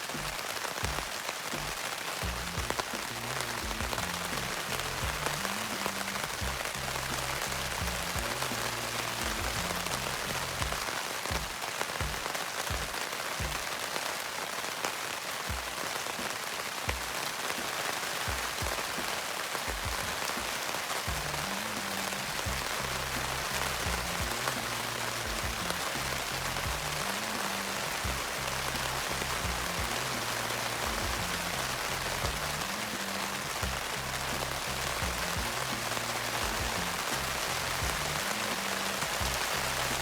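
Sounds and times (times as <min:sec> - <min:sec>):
steady rain: 0:00.0 - 0:40.0
soft music with low bass: 0:00.1 - 0:13.7, 0:19.7 - 0:40.0.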